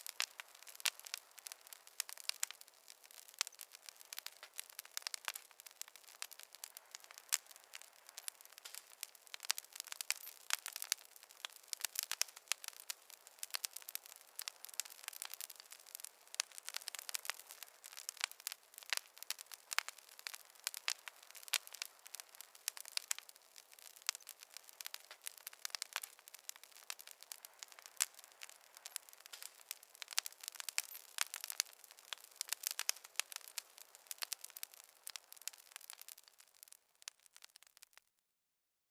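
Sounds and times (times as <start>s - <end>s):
fire crackling and popping: 0.0s - 38.1s.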